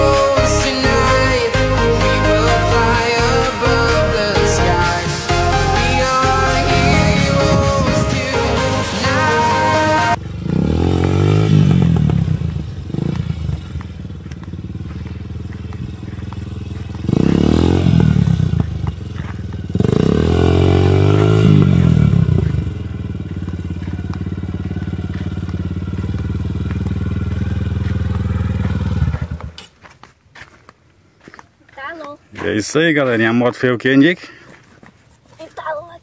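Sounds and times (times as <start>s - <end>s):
dirt bike engine revving: 0.0s - 29.7s.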